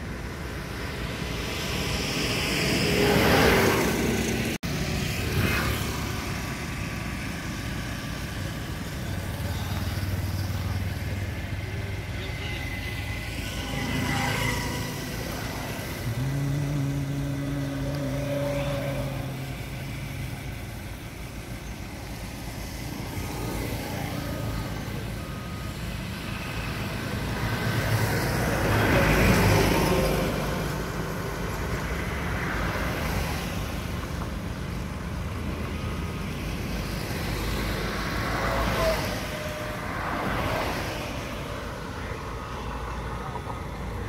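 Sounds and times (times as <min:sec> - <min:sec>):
heavy machinery diesel engines rumbling: 0:00.0 - 0:44.0.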